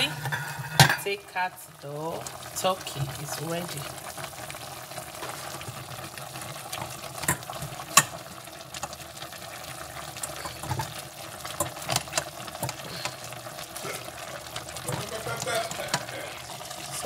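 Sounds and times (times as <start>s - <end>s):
broth bubbling: 1.7s - 17.0s.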